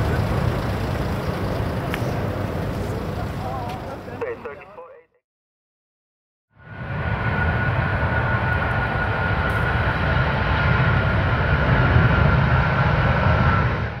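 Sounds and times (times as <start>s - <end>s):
jet engines rumbling with whine: 0.0s - 5.1s, 6.6s - 14.0s.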